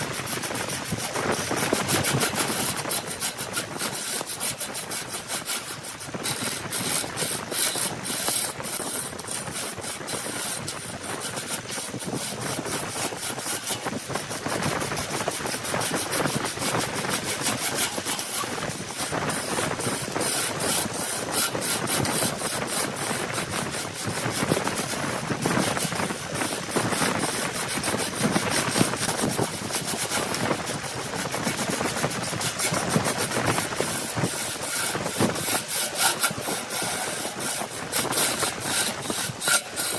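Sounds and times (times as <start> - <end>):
lathe running: 0.0 - 39.9
tool scraping spinning wood: 0.0 - 39.9.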